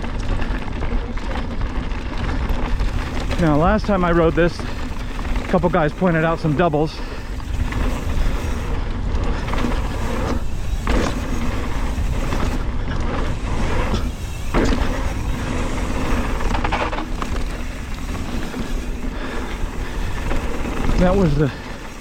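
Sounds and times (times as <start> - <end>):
bike tyres rolling on dirt: 0.0 - 22.0.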